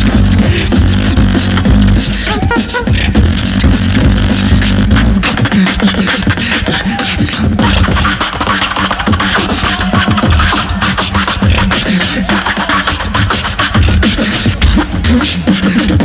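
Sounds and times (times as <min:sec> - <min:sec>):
person beatboxing: 0:00.0 - 0:16.0.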